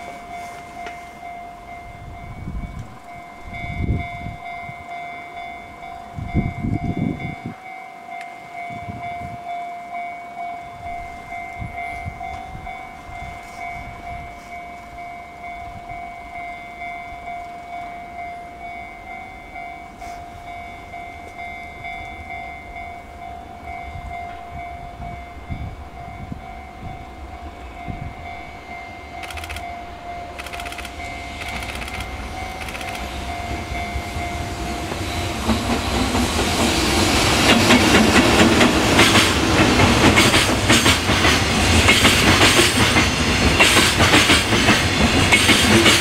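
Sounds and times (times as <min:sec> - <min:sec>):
steady high tone: 0:00.0 - 0:43.6
freight train rumbling: 0:00.0 - 0:46.0.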